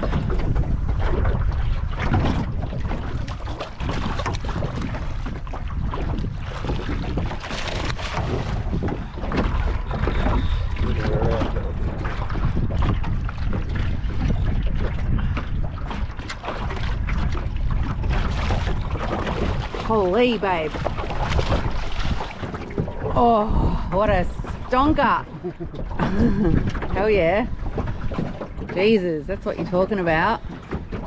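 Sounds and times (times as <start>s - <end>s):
water splashes: 0.0s - 31.0s
wind buffeting microphone: 0.0s - 31.0s.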